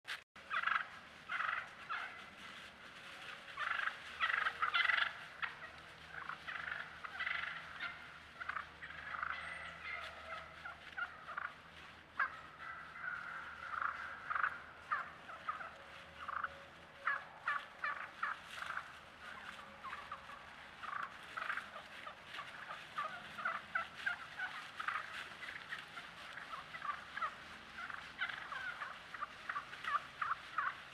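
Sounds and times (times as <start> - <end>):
wild turkeys calling: 0.4 - 30.9.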